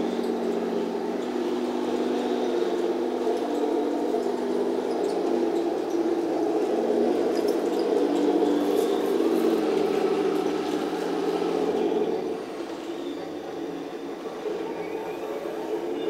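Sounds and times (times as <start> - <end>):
model tank mechanical drone: 0.0 - 16.0.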